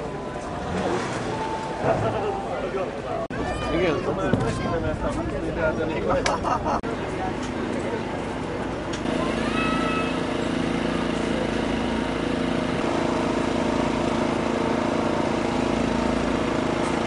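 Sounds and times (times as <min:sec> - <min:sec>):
engine running steadily: 0:00.0 - 0:03.4, 0:04.2 - 0:17.0.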